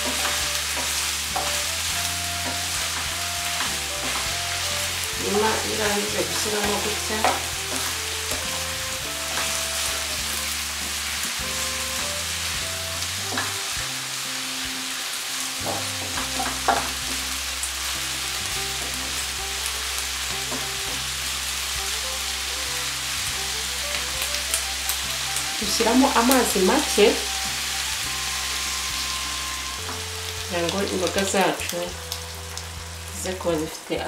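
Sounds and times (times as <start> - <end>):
vegetables sizzling in frying pan: 0.0 - 34.0.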